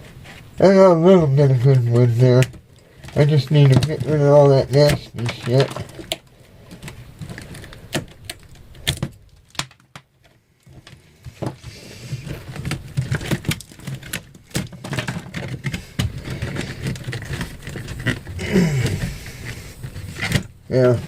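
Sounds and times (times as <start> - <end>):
wooden objects knocking and scraping: 1.6 - 21.0.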